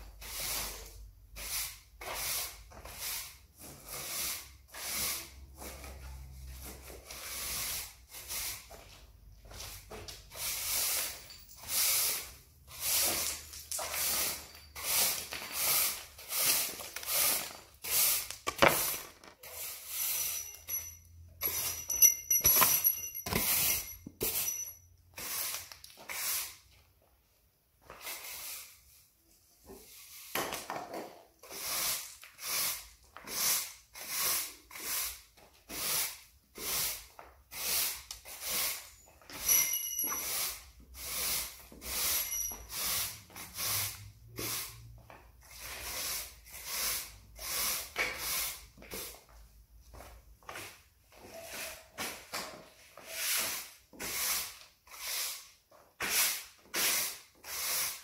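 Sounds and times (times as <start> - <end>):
push broom sweeping concrete: 0.0 - 26.9, 27.8 - 49.4, 50.1 - 58.0.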